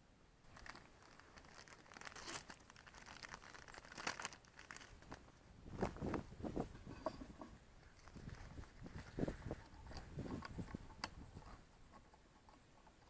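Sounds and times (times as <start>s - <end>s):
material crinkling and rustling: 0.4s - 12.1s.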